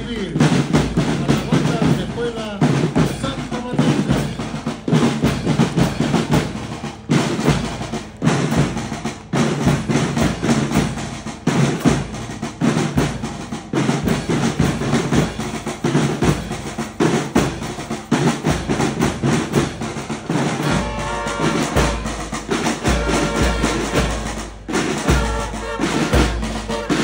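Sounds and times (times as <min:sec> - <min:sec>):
marching drum cadence: 0:00.0 - 0:27.0.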